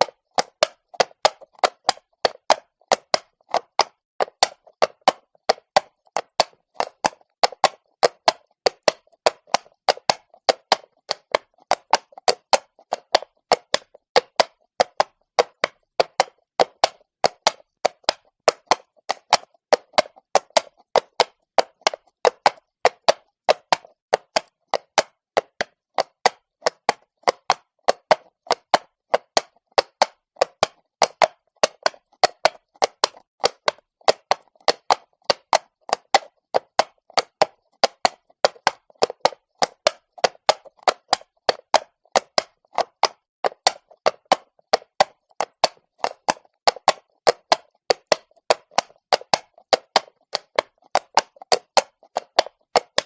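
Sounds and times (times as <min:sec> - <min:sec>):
horse hooves on cobblestones: 0:00.0 - 0:53.0.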